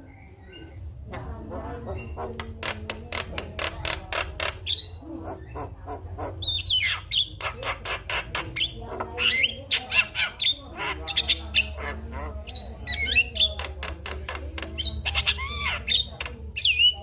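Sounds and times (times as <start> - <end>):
mynas chattering: 0.0 - 17.0.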